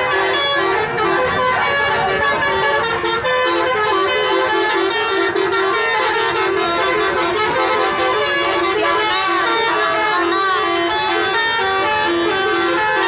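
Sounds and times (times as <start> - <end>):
musical bus horn tune: 0.0 - 13.0.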